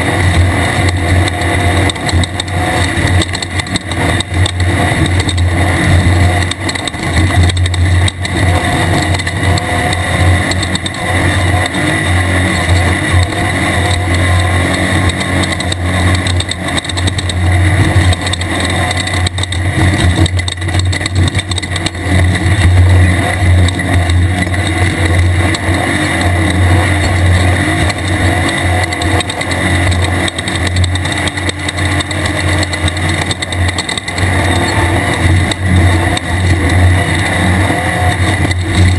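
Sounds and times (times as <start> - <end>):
loud rush of noise: 0.0 - 38.9
race car engine droning: 0.0 - 38.9.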